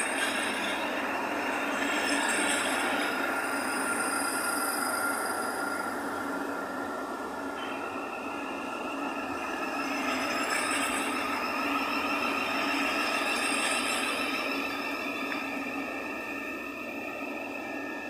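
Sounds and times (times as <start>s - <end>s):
electric train motor whine: 0.0s - 18.0s
train wheels on rails: 0.0s - 18.0s.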